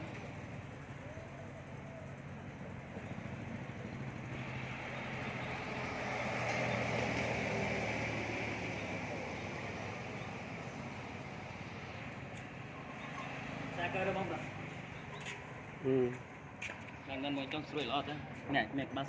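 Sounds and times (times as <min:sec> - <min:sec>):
motor vehicle passing by: 0:00.0 - 0:18.6.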